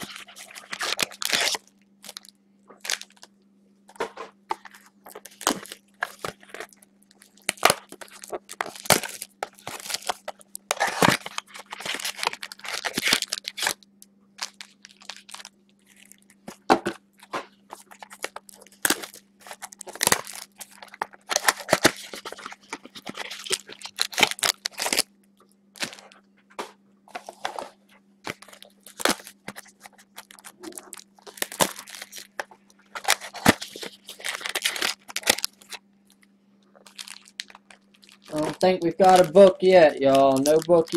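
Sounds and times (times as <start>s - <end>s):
foil wrappers crinkling: 0.0s - 3.3s, 4.0s - 25.1s, 25.8s - 26.2s, 28.3s - 36.2s, 36.8s - 40.9s
faint steady hum: 0.0s - 40.9s.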